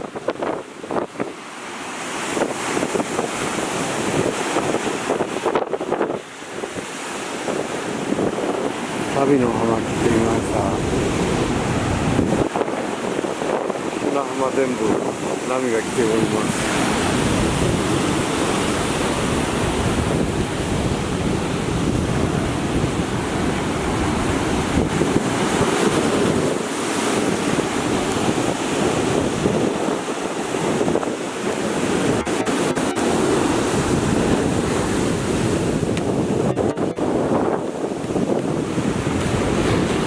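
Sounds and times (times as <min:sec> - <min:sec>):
heavy surf breaking on beach: 0:00.0 - 0:40.0
wind buffeting microphone: 0:00.0 - 0:40.0.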